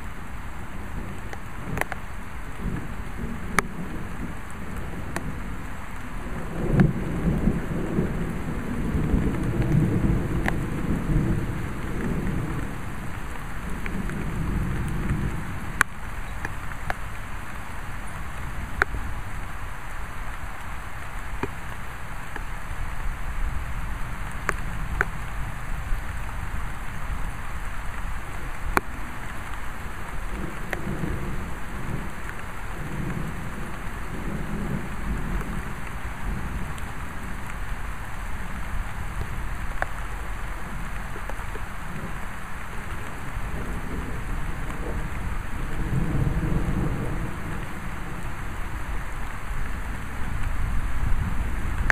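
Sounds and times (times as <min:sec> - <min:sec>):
raindrop clicks: 0:00.0 - 0:51.9
steady rain: 0:00.0 - 0:51.9
low rolling thunder: 0:02.5 - 0:16.8, 0:22.7 - 0:51.9.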